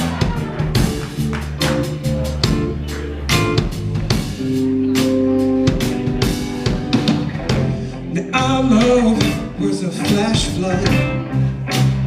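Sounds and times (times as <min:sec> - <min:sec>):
drum kit: 0:00.0 - 0:12.0
guitar: 0:00.0 - 0:12.0
live band playing: 0:00.0 - 0:12.0.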